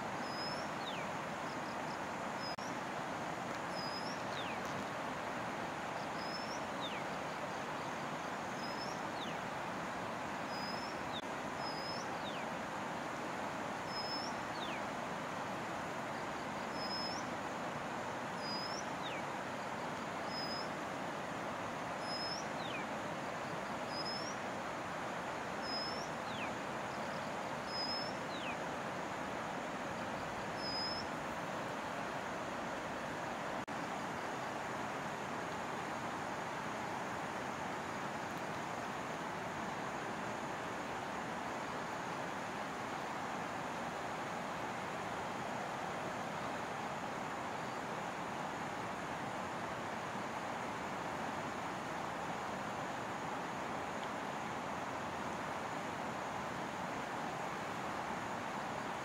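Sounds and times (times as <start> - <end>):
river running over rocks: 0.0 - 59.0.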